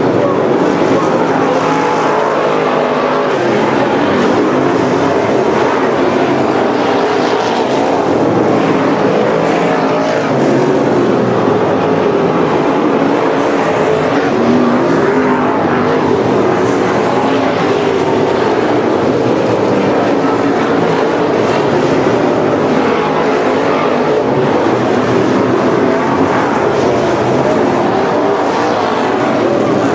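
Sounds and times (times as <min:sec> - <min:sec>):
race car engines roaring: 0:00.0 - 0:29.9.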